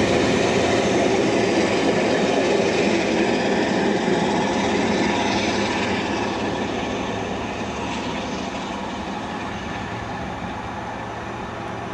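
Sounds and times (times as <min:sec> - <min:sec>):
diesel locomotive engine: 0:00.0 - 0:11.9
train coaches rolling on rails: 0:00.0 - 0:11.9.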